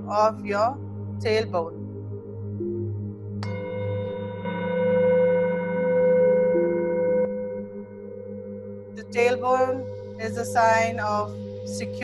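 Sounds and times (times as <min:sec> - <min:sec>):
singing bowl humming: 0:00.0 - 0:12.0.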